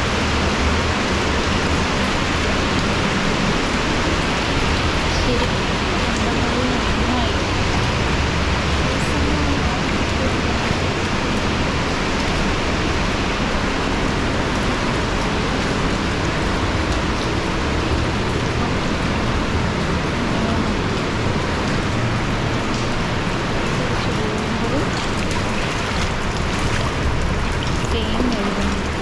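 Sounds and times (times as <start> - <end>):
falling water rushing: 0.0 - 29.0.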